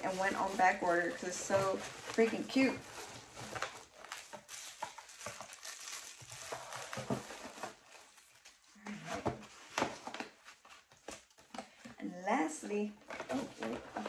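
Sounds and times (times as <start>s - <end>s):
paper packaging rustling: 0.0s - 11.7s.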